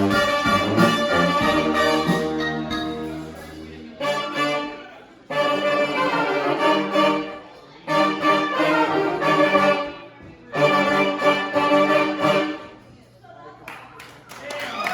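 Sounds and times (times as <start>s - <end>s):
brass band playing chords: 0.0s - 12.9s.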